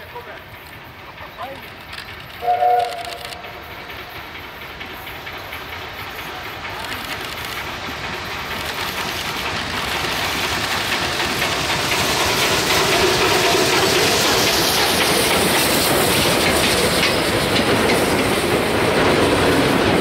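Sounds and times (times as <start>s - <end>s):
steam train approaching: 0.0s - 20.0s.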